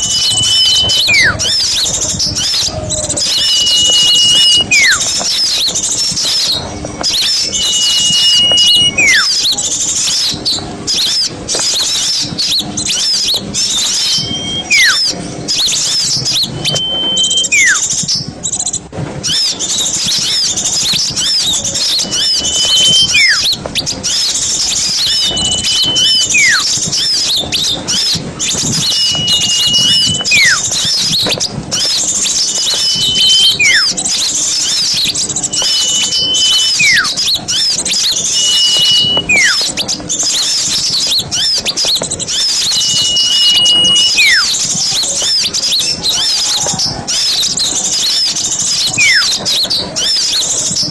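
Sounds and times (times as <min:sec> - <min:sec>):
two-part bird whistle: 0:00.0 - 0:18.3, 0:19.2 - 0:50.9
small birds twittering: 0:00.0 - 0:50.9.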